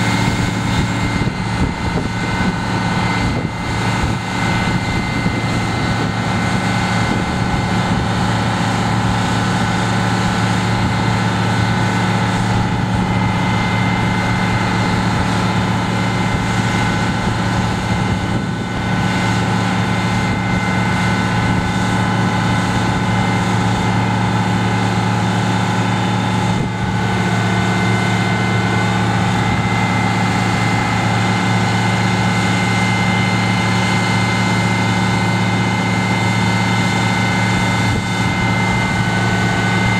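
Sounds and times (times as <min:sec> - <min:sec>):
fire truck engine drone: 0:00.0 - 0:39.9
hydraulic high whine: 0:00.0 - 0:39.9.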